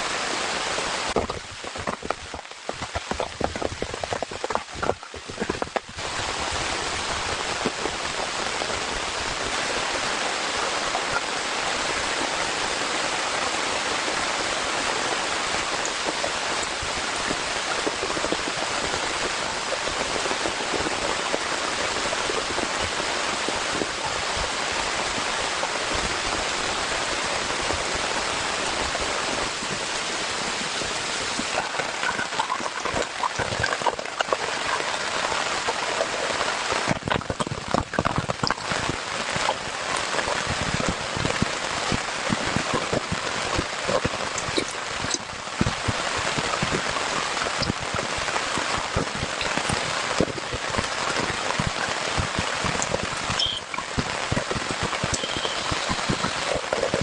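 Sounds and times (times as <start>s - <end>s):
heavy rain hiss: 0.0s - 57.0s
raindrops tapping on surface: 0.0s - 57.0s.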